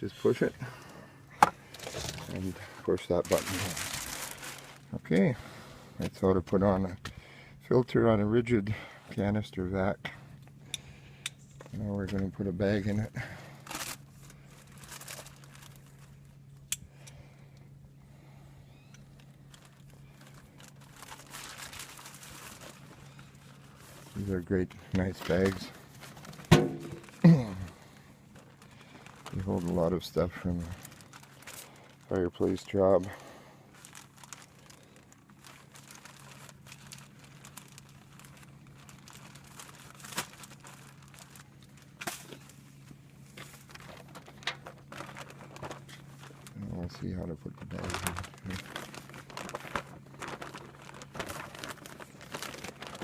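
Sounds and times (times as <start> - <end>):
low steady hum: 0.0 - 53.0
dust bag crinkling: 1.6 - 5.2, 11.8 - 16.6, 19.0 - 53.0.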